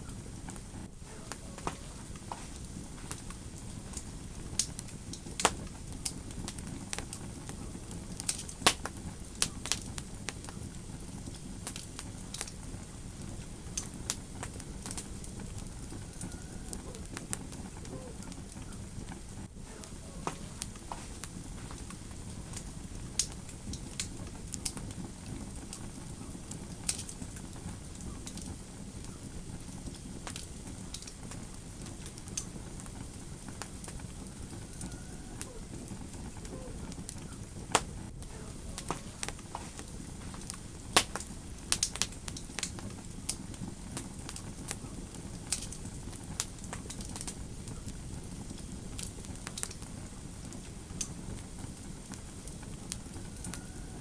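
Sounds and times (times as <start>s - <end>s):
fire popping and snapping: 0.0s - 54.0s
fire rumbling: 0.0s - 54.0s.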